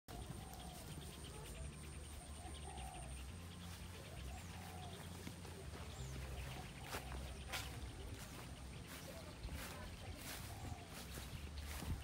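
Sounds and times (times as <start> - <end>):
bird calls and chirps: 0.1 - 12.0.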